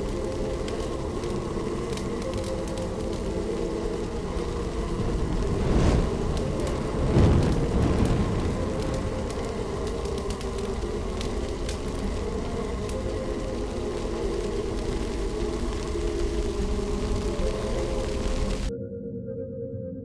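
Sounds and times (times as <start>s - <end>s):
fire crackling and popping: 0.0s - 18.7s
low drone: 0.0s - 20.0s.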